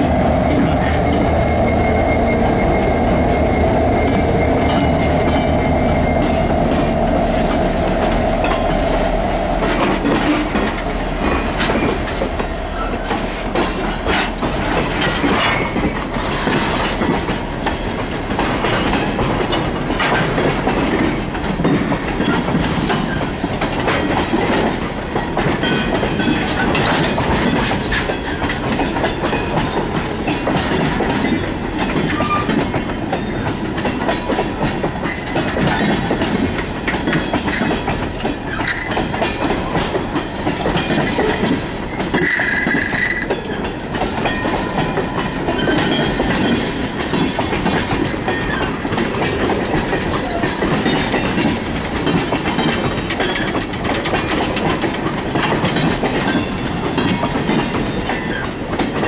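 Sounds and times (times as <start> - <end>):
freight train rolling past: 0.0 - 59.0
wheels clicking over rail joints: 9.6 - 59.0.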